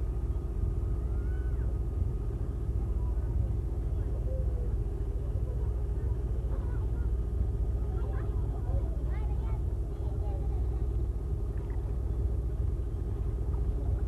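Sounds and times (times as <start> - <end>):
boat motor droning: 0.0 - 14.0.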